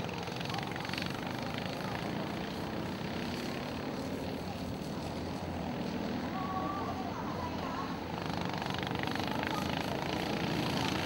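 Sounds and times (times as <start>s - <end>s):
go-kart engines buzzing: 0.0s - 11.0s.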